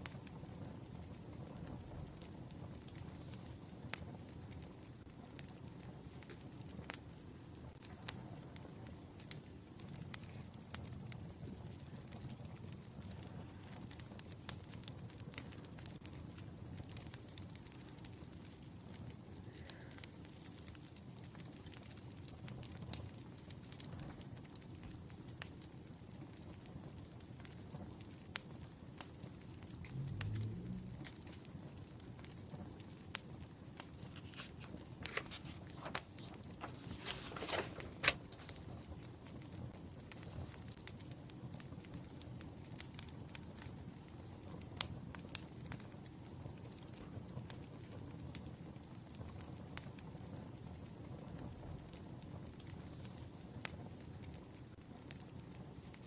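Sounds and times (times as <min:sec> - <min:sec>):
firewood crackling and hissing: 0:00.0 - 0:56.0.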